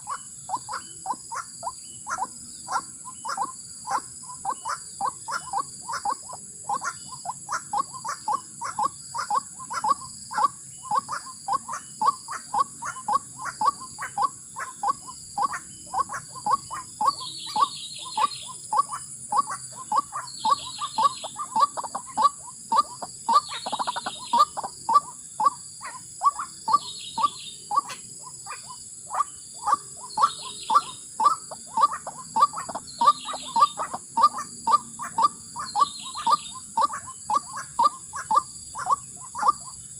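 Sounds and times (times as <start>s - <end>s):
higher chattering bird call: 0.0s - 39.7s
steady high-pitched hiss: 0.0s - 39.9s
waterhen calling: 2.1s - 39.7s.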